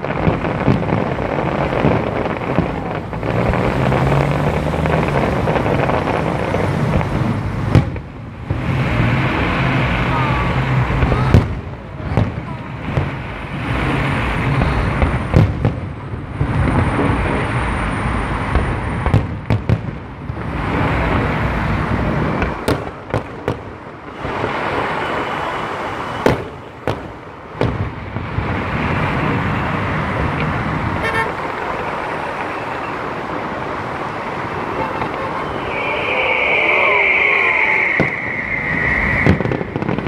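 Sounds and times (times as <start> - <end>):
fireworks bangs and cracks: 0.0 - 40.0
road traffic noise: 0.0 - 40.0.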